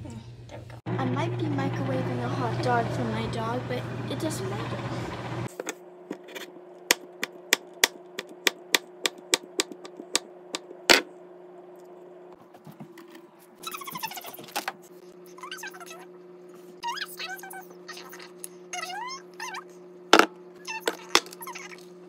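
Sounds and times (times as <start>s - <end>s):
steady kitchen hum: 0.0s - 22.0s.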